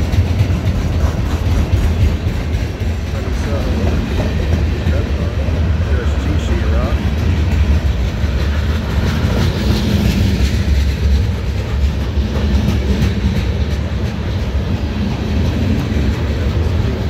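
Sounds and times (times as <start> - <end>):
rail joint clicks: 0.0 - 17.0
train wheels rumbling on rails: 0.0 - 17.0.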